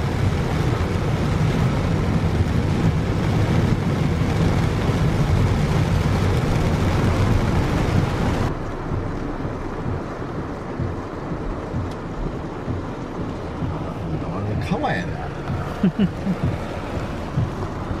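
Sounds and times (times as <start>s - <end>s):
heavy rain on a car: 0.0s - 18.0s.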